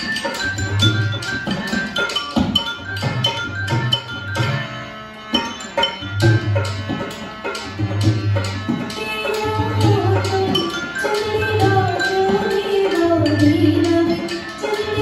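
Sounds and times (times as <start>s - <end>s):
hand drums: 0.0s - 15.0s.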